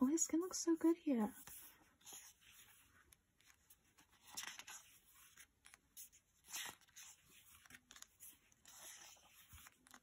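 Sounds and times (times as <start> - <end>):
photobook pages turning: 1.3 - 10.0.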